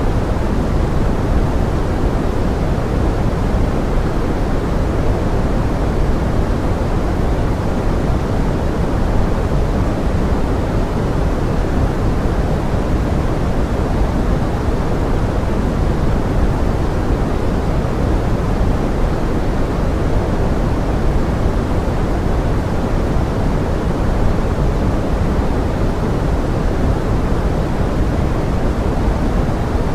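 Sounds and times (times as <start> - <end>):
pink noise hiss: 0.0 - 29.9.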